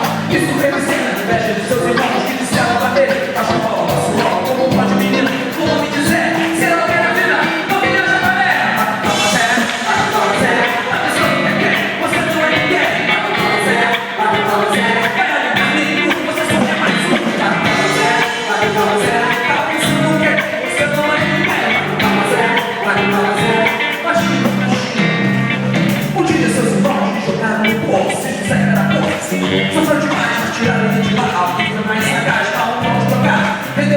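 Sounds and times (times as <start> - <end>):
drums beating: 0.0 - 33.9
live worship band: 0.0 - 33.9
person singing: 0.0 - 33.9.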